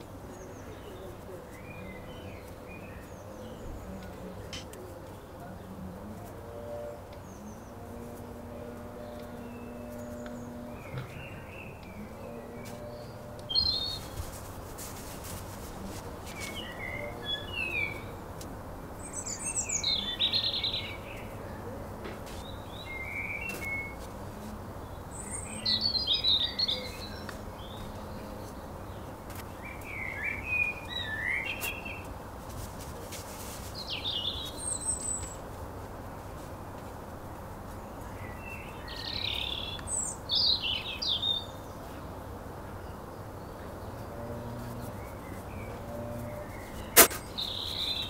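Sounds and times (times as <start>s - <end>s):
birds chirping and singing: 0.2s - 14.4s, 16.0s - 18.2s, 19.0s - 32.1s, 33.7s - 35.4s, 37.7s - 42.0s, 42.8s - 48.0s.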